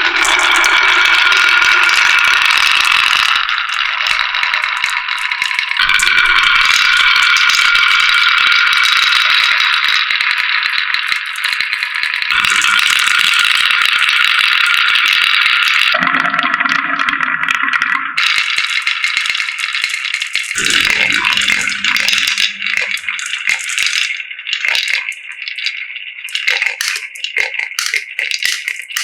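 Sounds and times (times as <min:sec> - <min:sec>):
marbles rattling down tracks: 0:00.0 - 0:15.7, 0:18.2 - 0:29.0.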